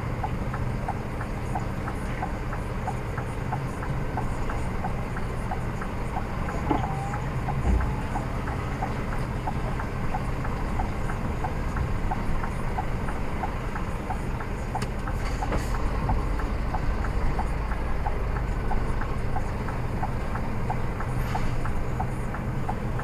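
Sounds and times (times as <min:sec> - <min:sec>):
diesel engine rumbling: 0:00.0 - 0:23.0
turn indicator ticking: 0:00.0 - 0:23.0.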